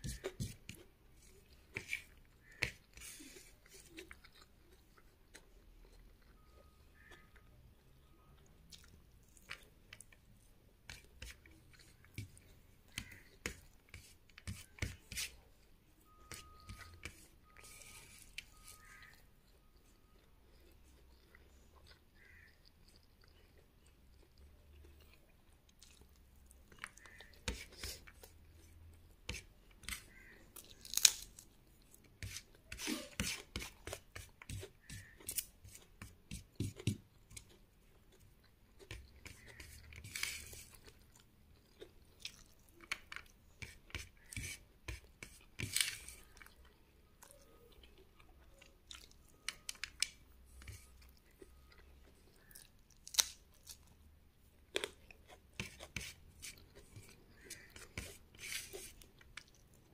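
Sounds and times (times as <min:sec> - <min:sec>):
person chewing rice: 0:00.0 - 0:59.9.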